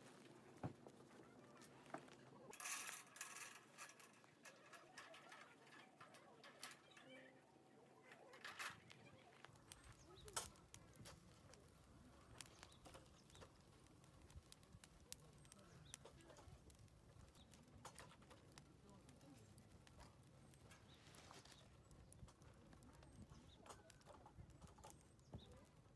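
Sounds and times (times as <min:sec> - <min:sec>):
wood fire crackling and popping: 0:00.0 - 0:25.9.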